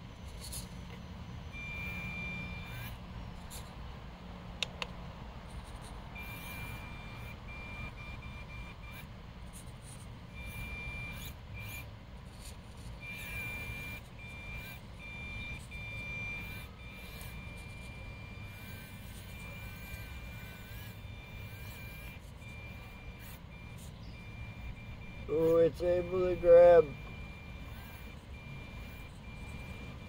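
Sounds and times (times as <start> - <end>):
rc car electric motor whining: 0.0 - 3.7, 5.5 - 30.0.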